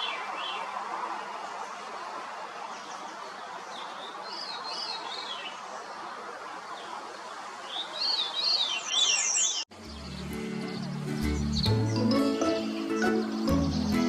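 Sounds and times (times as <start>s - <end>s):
songbird singing: 0.0s - 0.8s, 1.8s - 14.0s.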